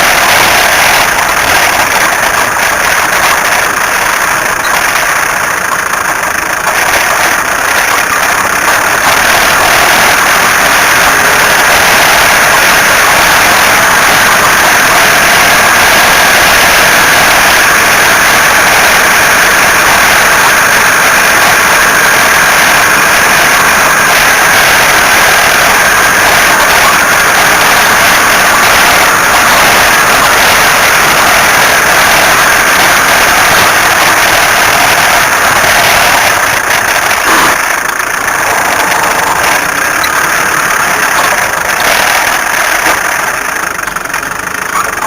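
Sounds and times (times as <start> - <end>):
car engine harsh noise: 0.0 - 45.0.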